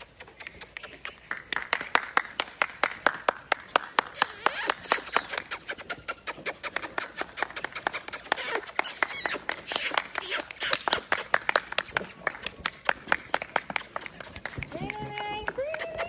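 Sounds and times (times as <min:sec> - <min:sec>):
rapid hand clapping: 0:01.3 - 0:05.5, 0:06.7 - 0:16.0.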